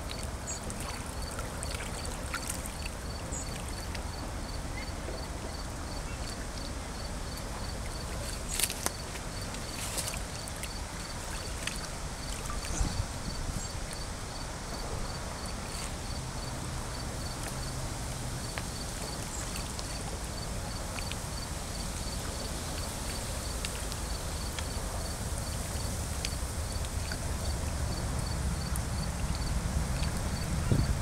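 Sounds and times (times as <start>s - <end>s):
faint insect chirping: 0.0s - 17.8s, 18.4s - 31.0s
low rumble and hiss: 0.0s - 31.0s.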